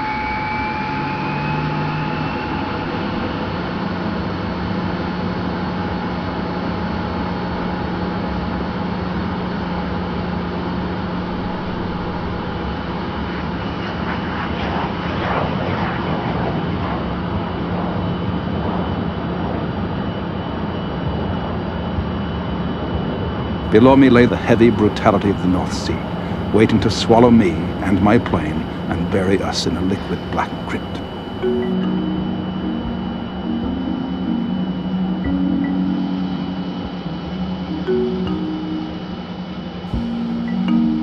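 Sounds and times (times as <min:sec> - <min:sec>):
jet engine droning: 0:00.0 - 0:41.0.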